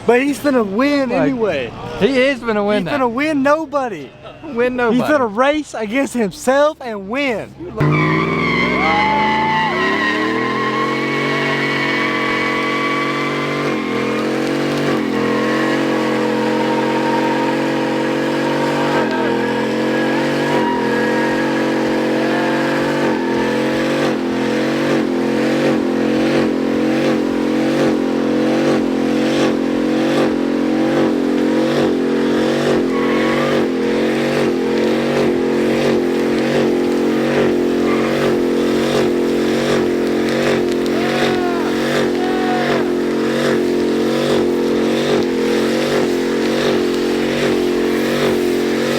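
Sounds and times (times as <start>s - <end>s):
truck engine revving: 7.8s - 48.9s.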